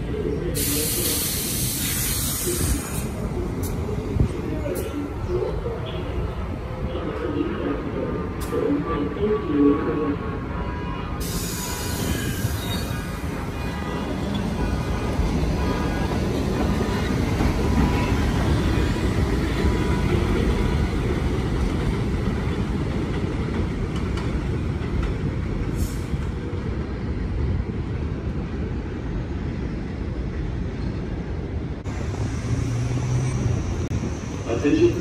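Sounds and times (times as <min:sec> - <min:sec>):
train wheels rumbling on rail: 0:00.0 - 0:09.4, 0:11.2 - 0:35.0.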